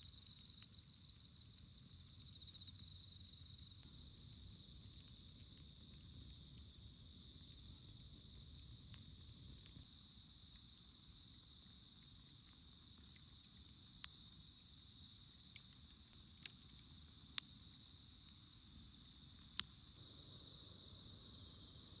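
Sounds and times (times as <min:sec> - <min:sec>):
campfire crackling: 0:00.0 - 0:22.0
crickets chirping: 0:00.0 - 0:22.0.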